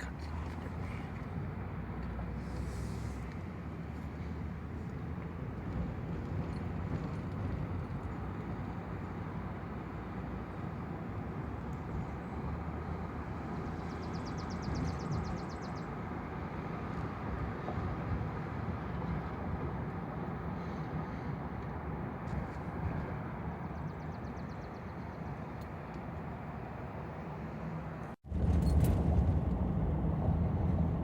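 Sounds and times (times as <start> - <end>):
vehicle road noise rumble: 0.0 - 31.0.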